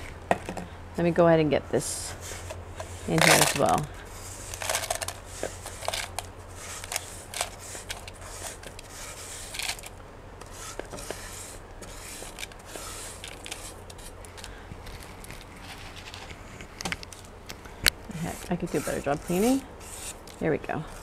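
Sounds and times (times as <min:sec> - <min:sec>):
hand handling clicks and scrapes: 0:02.1 - 0:21.0.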